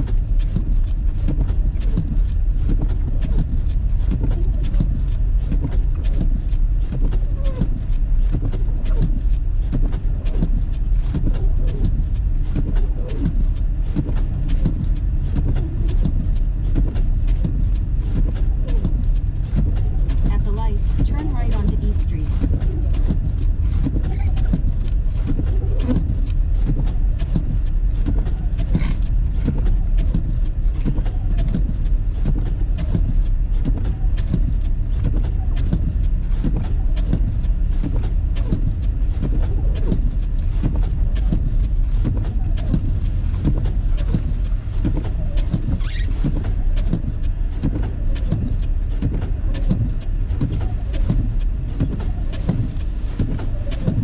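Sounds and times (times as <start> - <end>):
car engine and tyres rumbling: 0.0 - 54.0
tyres crackling on snow: 0.0 - 54.0.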